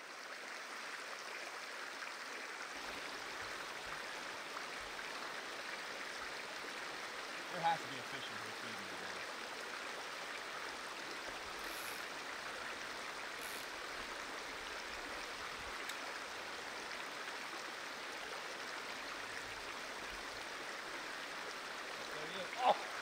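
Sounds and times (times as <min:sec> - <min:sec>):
stream flowing over stones: 0:00.0 - 0:23.0.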